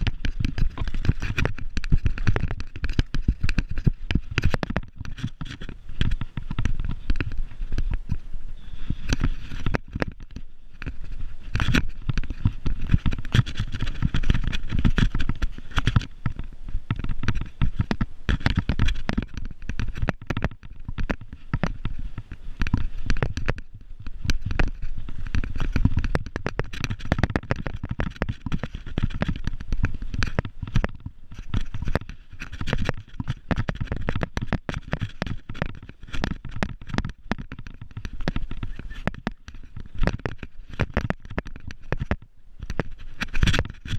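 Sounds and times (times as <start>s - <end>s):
bike frame jolting: 0.0s - 8.2s, 8.8s - 42.2s
bike tyres knocking on stones: 0.0s - 8.2s, 9.0s - 43.9s.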